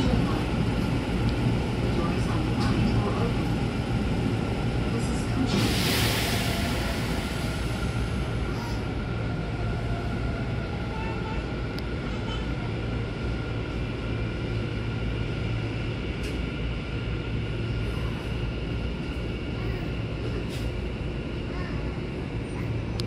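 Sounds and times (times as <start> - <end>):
train interior rumble: 0.0 - 23.0.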